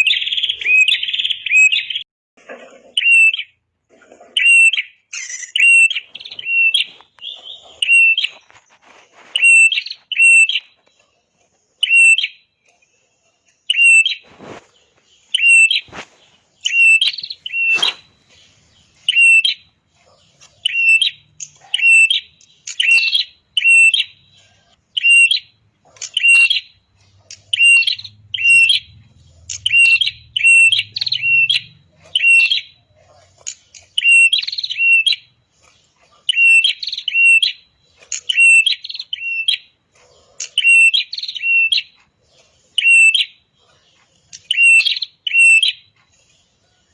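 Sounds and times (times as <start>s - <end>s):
songbird chirping sharply: 0.0s - 2.0s, 3.0s - 3.6s, 4.4s - 8.7s, 9.4s - 11.0s, 11.8s - 12.7s, 13.6s - 35.4s, 36.2s - 42.0s, 42.8s - 43.5s, 44.3s - 45.9s.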